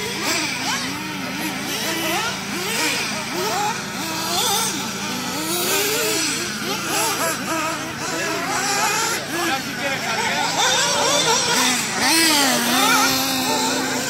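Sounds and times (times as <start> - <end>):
rc buggy motors revving: 0.0 - 14.0.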